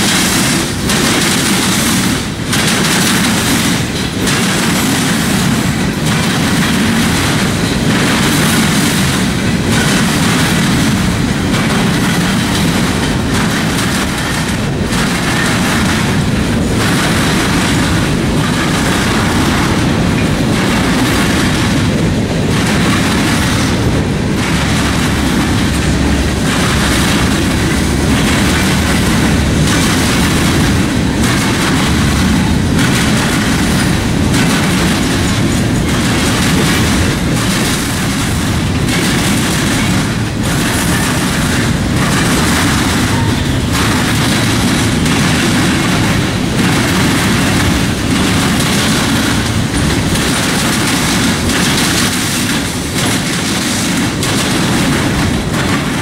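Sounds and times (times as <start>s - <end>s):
freight train rolling past: 0.0s - 56.0s
steel wheels rattling on rail: 0.0s - 56.0s.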